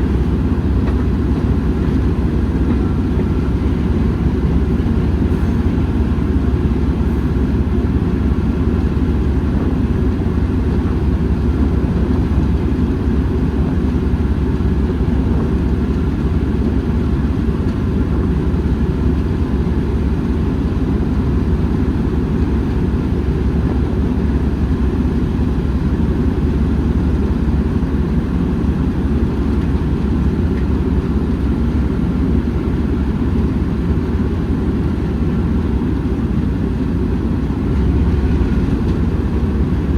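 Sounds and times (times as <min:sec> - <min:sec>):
diesel locomotive engine rumbling: 0:00.0 - 0:39.9.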